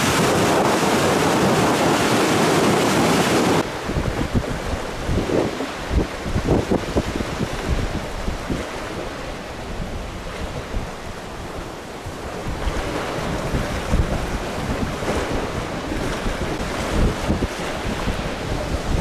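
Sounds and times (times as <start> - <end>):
waves on a lake: 0.0 - 19.0
wind buffeting microphone: 0.0 - 19.0.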